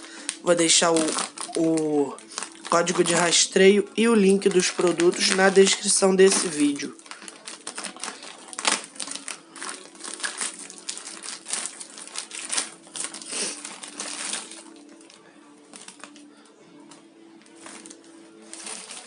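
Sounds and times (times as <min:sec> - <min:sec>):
parcel packaging crinkling: 0:00.0 - 0:16.4, 0:17.4 - 0:19.0.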